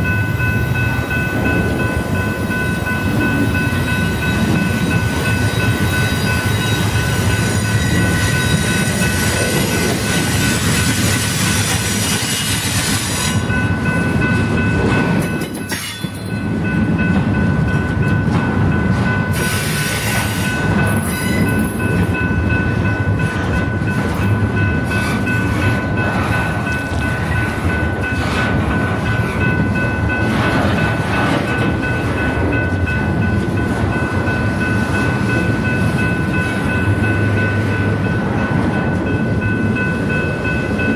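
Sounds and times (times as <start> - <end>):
steady high tone: 0.0 - 11.2, 13.3 - 40.9
freight train cars rumbling: 0.0 - 40.9.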